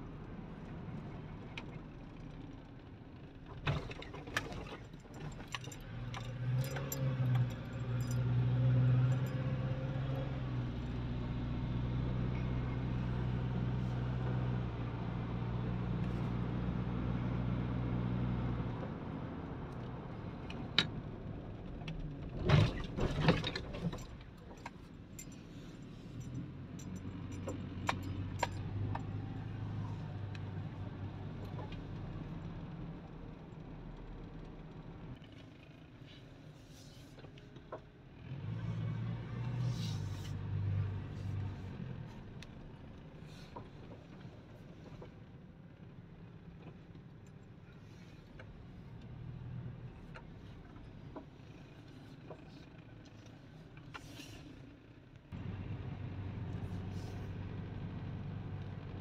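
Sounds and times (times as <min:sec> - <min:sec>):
car engine hum: 0:00.0 - 0:59.0
road noise: 0:00.0 - 0:59.0.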